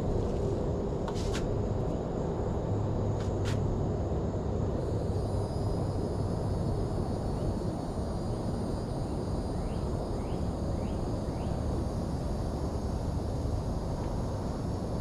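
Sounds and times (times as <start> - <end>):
faint insect drone: 0.0 - 15.0.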